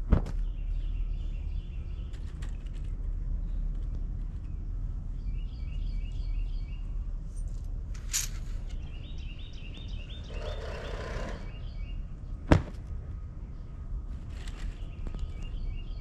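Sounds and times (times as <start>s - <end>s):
low outdoor rumble: 0.0s - 16.0s
songbird chirping: 0.3s - 7.2s, 8.4s - 12.5s, 13.1s - 16.0s.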